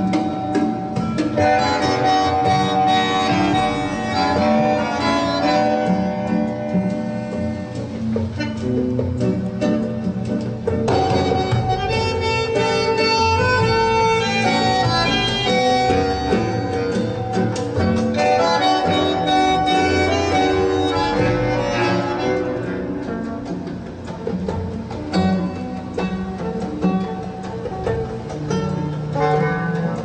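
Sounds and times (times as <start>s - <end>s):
acoustic instrumental music: 0.0s - 30.0s.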